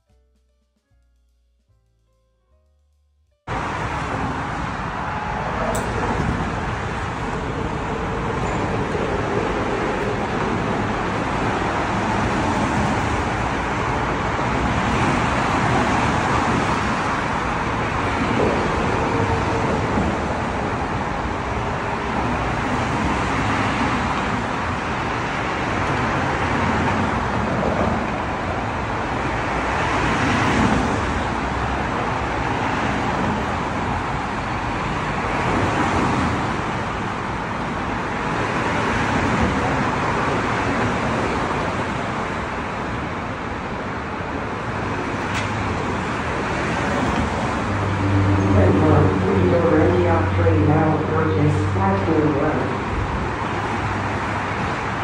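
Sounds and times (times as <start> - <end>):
road traffic passing: 3.4 - 55.0.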